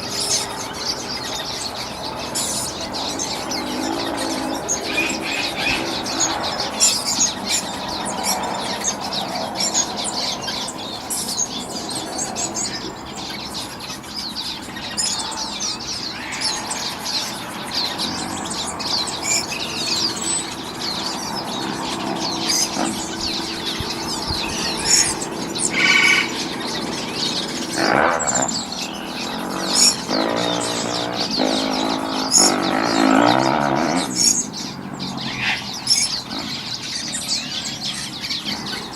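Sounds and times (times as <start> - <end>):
lower longer bird calls: 0.0 - 38.9
small birds chirping: 0.0 - 38.9.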